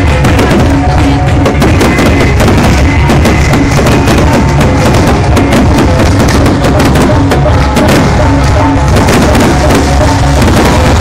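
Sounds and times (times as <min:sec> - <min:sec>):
fireworks bursting and crackling: 0:00.0 - 0:11.0
music with a drumbeat: 0:00.0 - 0:11.0.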